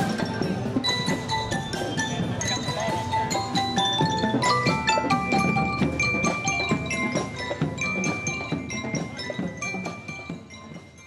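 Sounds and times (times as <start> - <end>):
bell lyres playing melody: 0.0 - 11.0
marching drum strokes: 0.0 - 11.0.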